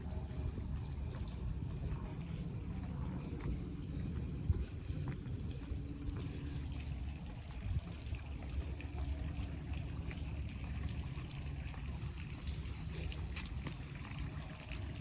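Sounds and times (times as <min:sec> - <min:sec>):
fountain water trickling: 0:00.0 - 0:15.0.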